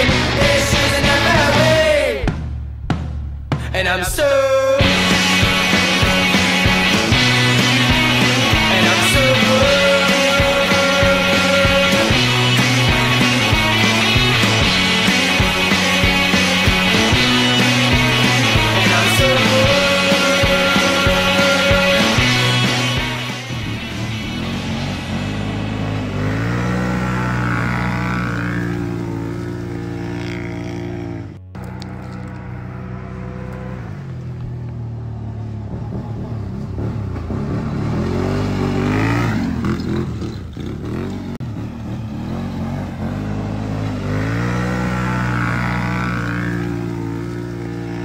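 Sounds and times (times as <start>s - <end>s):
quad engine revving: 0.0s - 2.4s, 4.8s - 48.0s.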